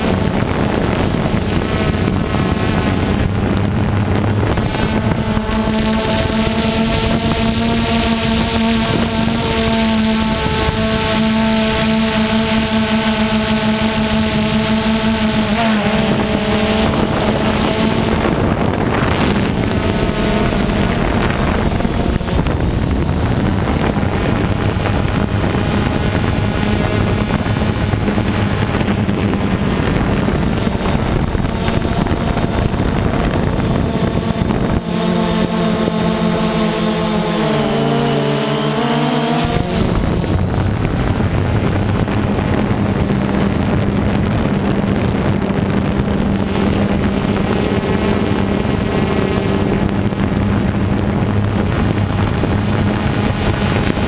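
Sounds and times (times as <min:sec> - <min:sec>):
drone propellers whirring: 0:00.0 - 0:54.0
wind on microphone: 0:00.0 - 0:54.0.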